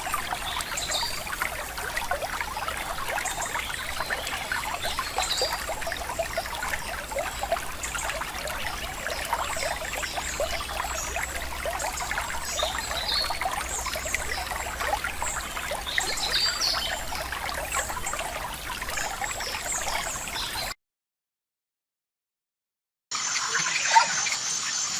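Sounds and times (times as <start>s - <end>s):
river water trickling: 0.0s - 20.8s, 23.1s - 24.9s.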